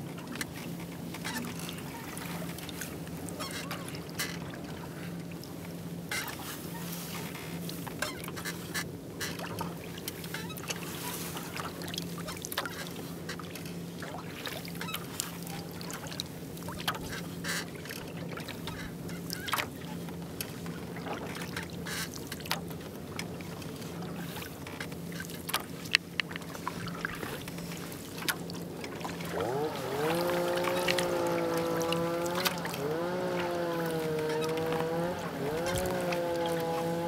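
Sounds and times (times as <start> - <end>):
paddle blades dipping and dripping: 0.0 - 37.0.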